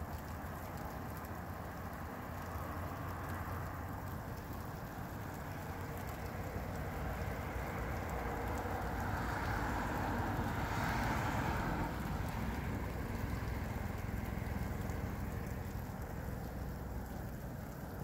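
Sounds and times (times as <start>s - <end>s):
car tyres hissing on wet street: 0.0s - 18.0s
steady rain falling: 0.0s - 18.0s.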